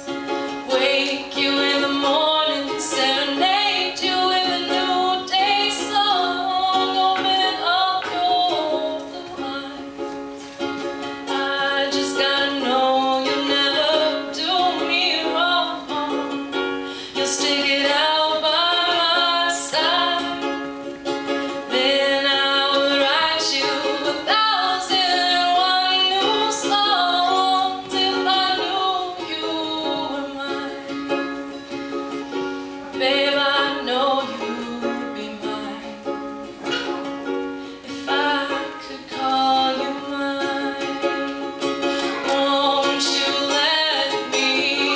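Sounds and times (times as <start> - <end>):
ukulele strumming: 0.0 - 44.9
woman singing: 0.0 - 44.9.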